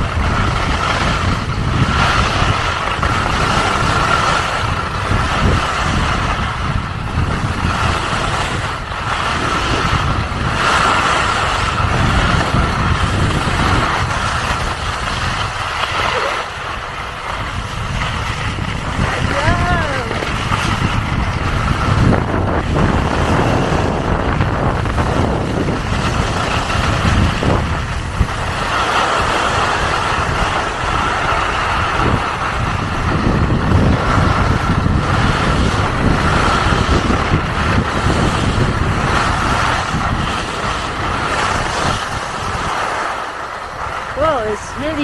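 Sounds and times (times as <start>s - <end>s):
skis running over snow: 0.0s - 45.0s
wind rushing over microphone: 0.0s - 45.0s.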